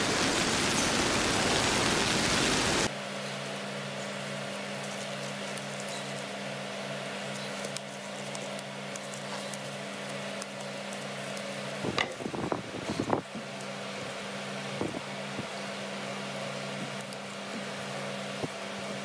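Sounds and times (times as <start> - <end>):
low hum of a fan: 0.0 - 19.0.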